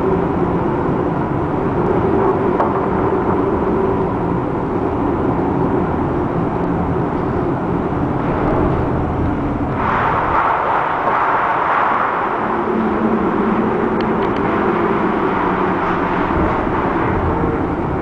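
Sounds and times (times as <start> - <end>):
low machinery hum: 0.0 - 18.0
wind and sea noise: 0.0 - 18.0.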